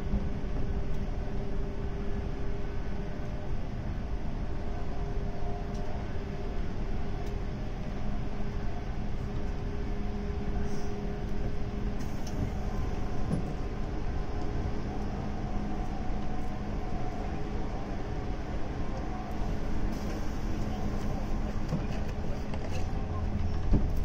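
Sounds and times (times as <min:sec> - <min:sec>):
train motor hum: 0:00.0 - 0:24.0
wheels rumbling on rail: 0:00.0 - 0:24.0.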